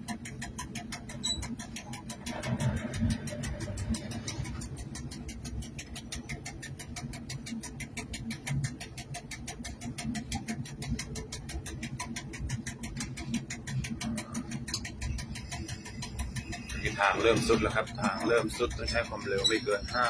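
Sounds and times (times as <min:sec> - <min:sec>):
locomotive engine rumble: 0:00.0 - 0:20.0
rapid ticking: 0:00.0 - 0:20.0.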